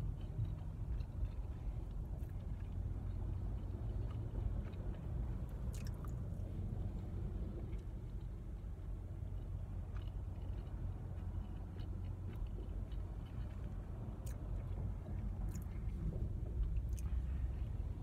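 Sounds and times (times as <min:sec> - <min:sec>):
close-up chewing: 0:00.0 - 0:18.0
low rumble inside a car: 0:00.0 - 0:18.0.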